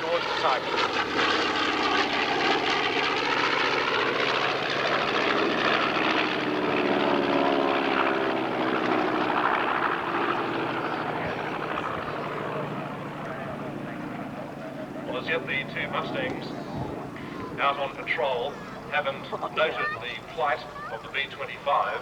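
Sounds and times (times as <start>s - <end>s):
propeller planes droning past: 0.0s - 22.0s.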